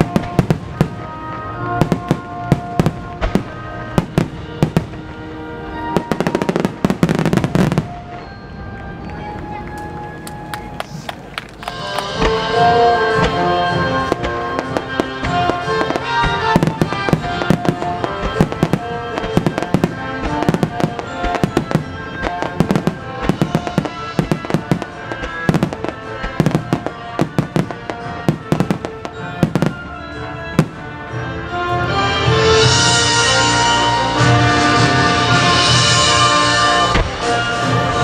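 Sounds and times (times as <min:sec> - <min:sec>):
fireworks bursts and bangs: 0:00.0 - 0:08.4, 0:10.8 - 0:31.2, 0:32.1 - 0:38.0
music playing: 0:00.0 - 0:38.0.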